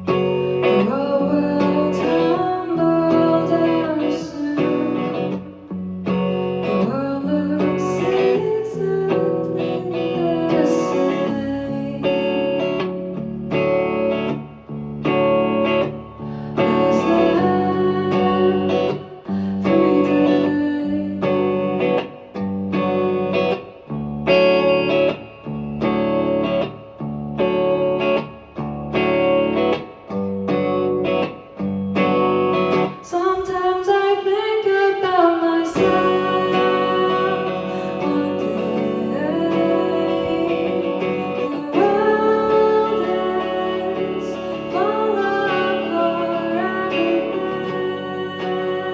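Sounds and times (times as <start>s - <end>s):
live band with guitar: 0.0s - 48.9s.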